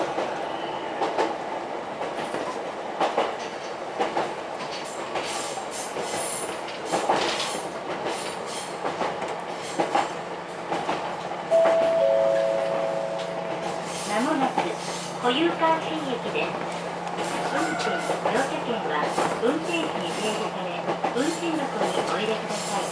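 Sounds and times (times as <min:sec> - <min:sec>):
train running rumble: 0:01.0 - 0:22.9.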